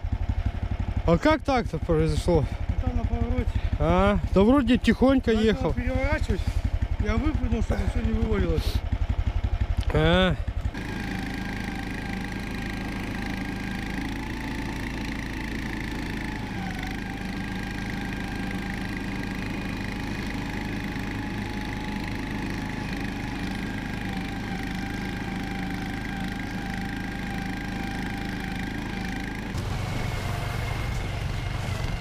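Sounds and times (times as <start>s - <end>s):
towing unit engine running: 0.0s - 32.0s.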